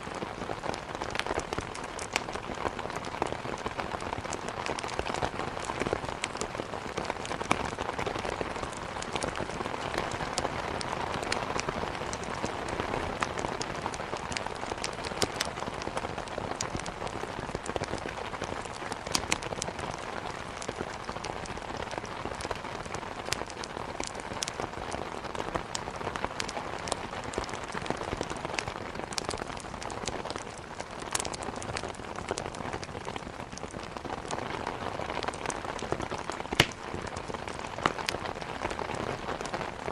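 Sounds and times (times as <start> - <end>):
heavy rain on a window: 0.0 - 39.9
wood fire crackling: 0.0 - 39.9.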